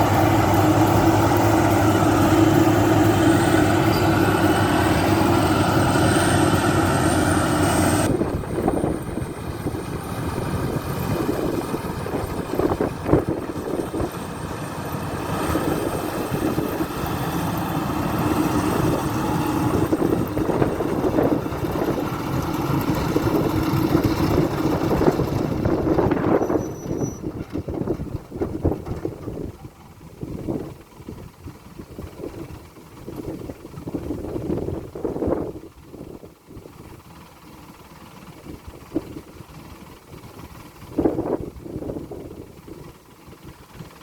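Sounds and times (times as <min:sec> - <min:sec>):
combine harvester running: 0:00.0 - 0:44.0.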